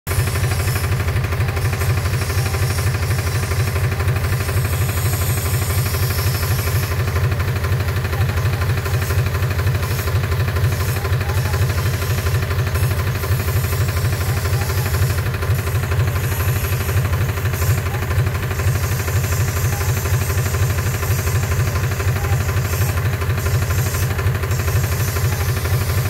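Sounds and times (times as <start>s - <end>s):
tractor diesel engine running: 0.1s - 26.0s.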